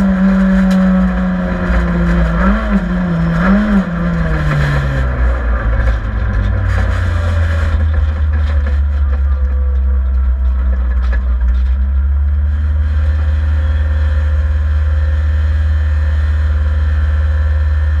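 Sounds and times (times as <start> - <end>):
car engine low drone: 0.0 - 18.0.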